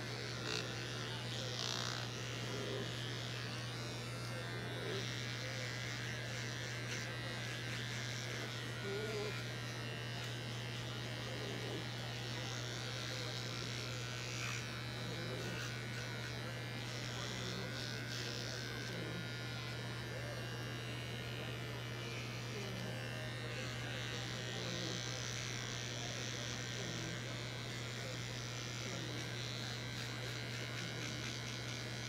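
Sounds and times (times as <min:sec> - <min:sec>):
electric clippers buzzing: 0:00.0 - 0:32.0.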